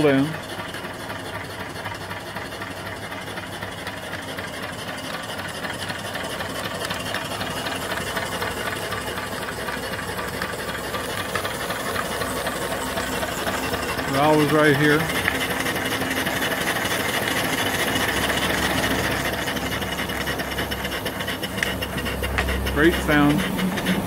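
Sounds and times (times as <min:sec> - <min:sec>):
steam engine running: 0:00.0 - 0:24.0
steam hissing: 0:00.0 - 0:24.0.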